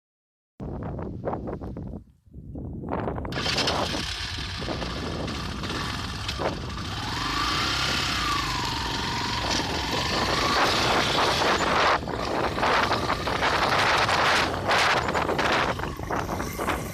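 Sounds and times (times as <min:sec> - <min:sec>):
motorcycle engine running: 0:03.3 - 0:16.9.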